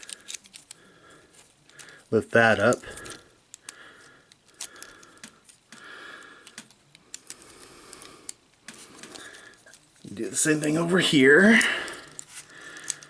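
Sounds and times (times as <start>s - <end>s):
plastic toy clicking and rattling: 0.0s - 2.1s, 2.7s - 10.1s, 11.6s - 13.0s.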